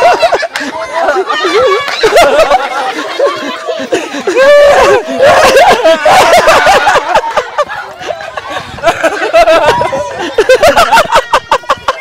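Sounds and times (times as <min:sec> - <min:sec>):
people chattering: 0:00.0 - 0:12.0
people laughing: 0:00.0 - 0:12.0.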